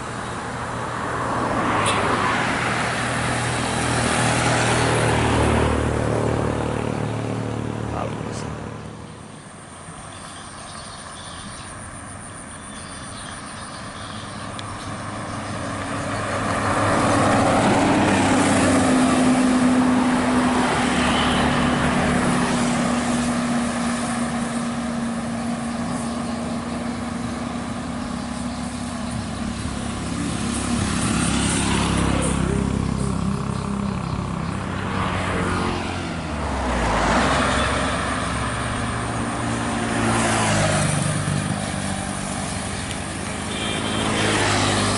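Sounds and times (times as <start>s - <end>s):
buses passing by: 0.0s - 44.9s.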